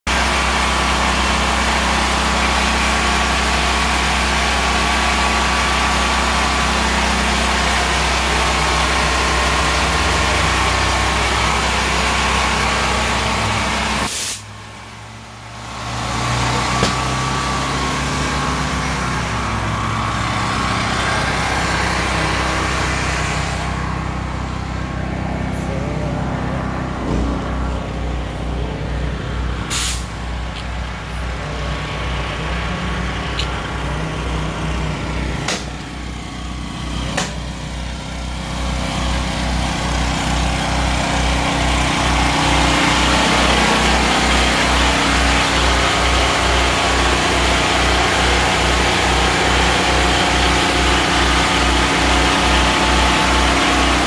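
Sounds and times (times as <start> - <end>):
engine idling: 0.1 - 54.0.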